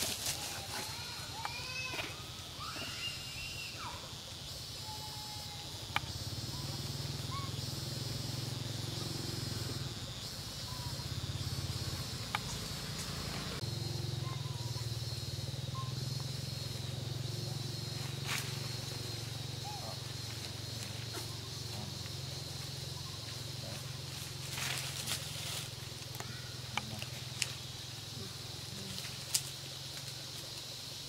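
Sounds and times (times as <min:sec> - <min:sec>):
faint chirps: 0:00.3 - 0:31.0.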